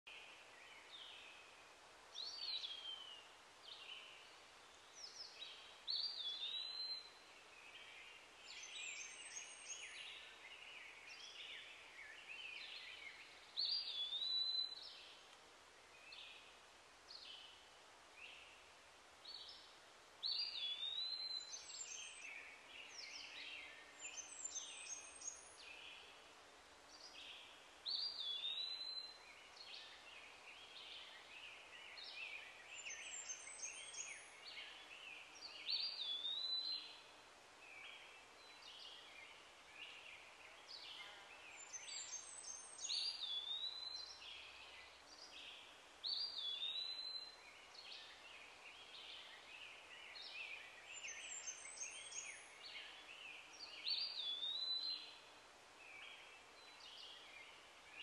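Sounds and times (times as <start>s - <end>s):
background hiss: 0.1s - 58.0s.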